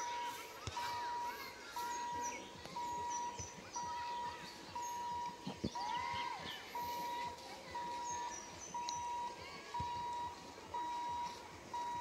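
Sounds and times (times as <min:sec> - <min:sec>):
birds chirping: 0:00.0 - 0:12.0
electronic beeps: 0:00.8 - 0:06.0, 0:06.8 - 0:12.0.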